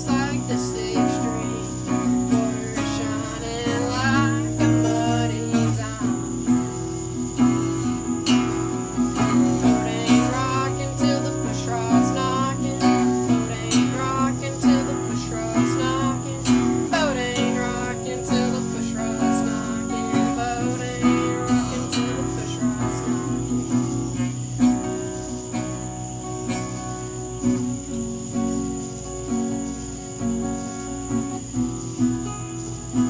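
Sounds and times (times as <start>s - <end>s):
acoustic guitar strummed and picked: 0.0s - 33.0s.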